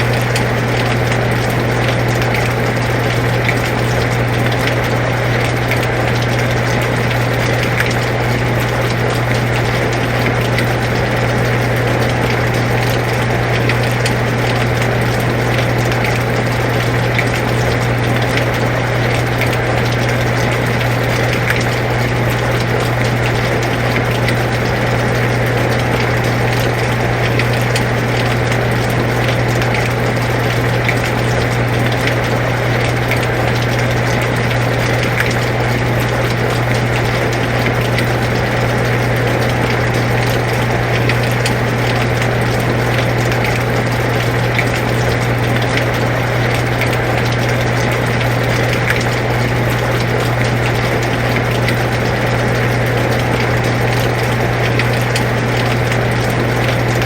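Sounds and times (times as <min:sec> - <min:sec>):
air conditioner humming: 0:00.0 - 0:57.0
raindrops ticking: 0:00.0 - 0:57.0.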